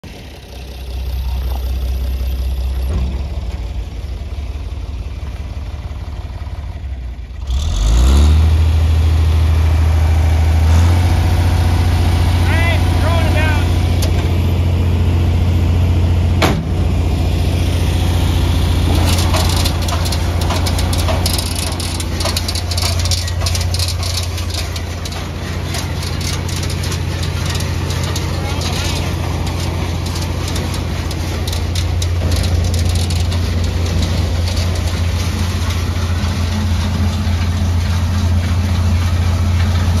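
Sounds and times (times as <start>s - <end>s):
tractor engine idling: 0.0s - 7.8s, 8.5s - 40.0s.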